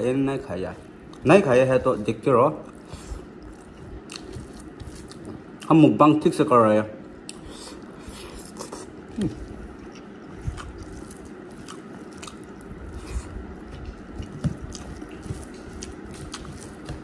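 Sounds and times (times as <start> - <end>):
close-up chewing: 0.0 - 5.8, 7.2 - 17.0.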